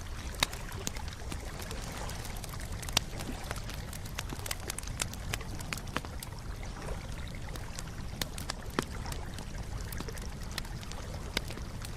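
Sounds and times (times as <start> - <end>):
campfire crackling and popping: 0.0 - 11.9.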